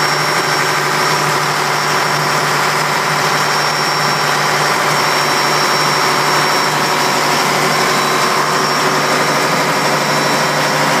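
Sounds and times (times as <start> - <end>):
diesel engine running loudly: 0.0 - 11.0.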